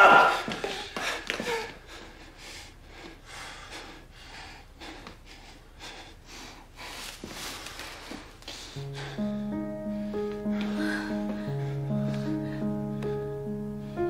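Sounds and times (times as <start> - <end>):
person breathing heavily: 0.0 - 14.0.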